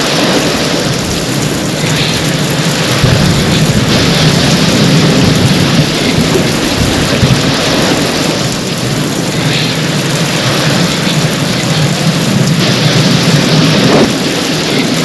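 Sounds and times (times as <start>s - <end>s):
heavy rain pouring: 0.0s - 15.0s
thunder rumbling: 0.0s - 15.0s.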